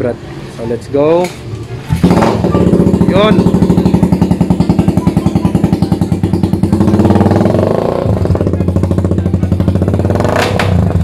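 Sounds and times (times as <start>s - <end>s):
motorcycle engine revving: 1.8s - 11.0s.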